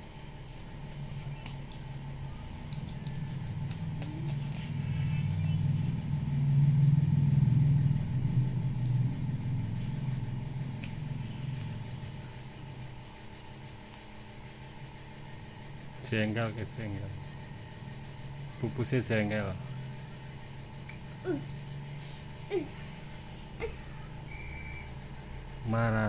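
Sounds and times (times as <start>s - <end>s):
low engine-like rumble: 0.0s - 26.0s.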